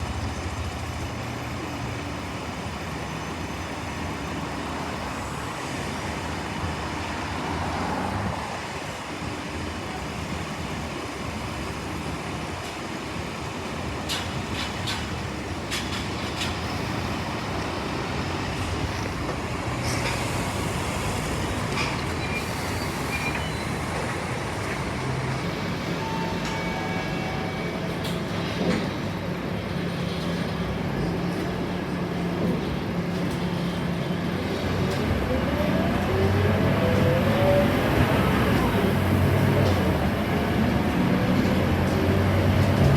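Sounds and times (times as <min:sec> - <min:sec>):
bus diesel engine running: 0:00.0 - 0:42.9
road noise: 0:00.0 - 0:42.9.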